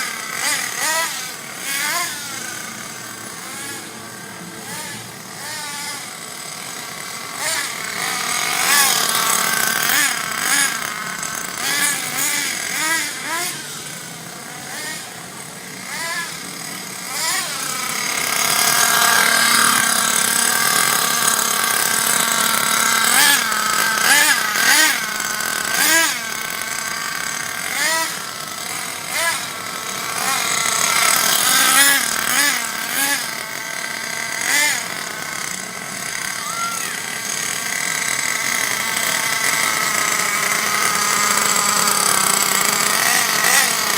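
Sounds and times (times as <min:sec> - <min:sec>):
model car nitro engine revving: 0:00.0 - 0:43.9.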